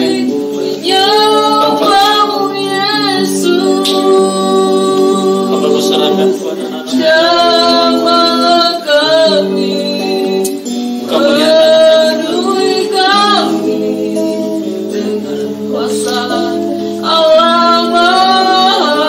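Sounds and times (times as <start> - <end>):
guitar accompaniment: 0.0 - 19.0
voices singing worship song: 0.0 - 19.0.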